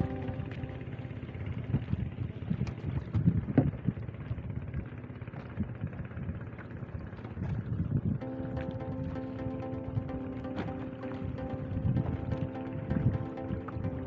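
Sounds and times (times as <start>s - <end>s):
wind buffeting microphone: 0.0s - 9.2s, 11.2s - 14.0s.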